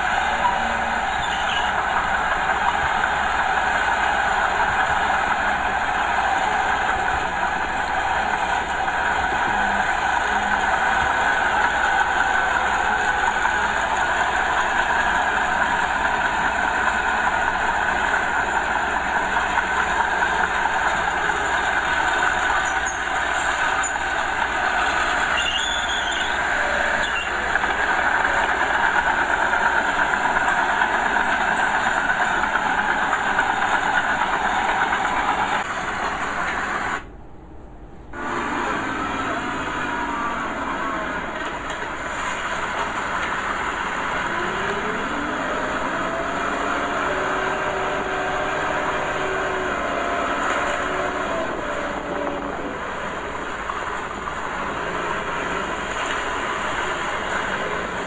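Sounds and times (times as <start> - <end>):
clattering tracks: 0.0 - 58.0
diesel bulldozer engine: 0.0 - 58.0.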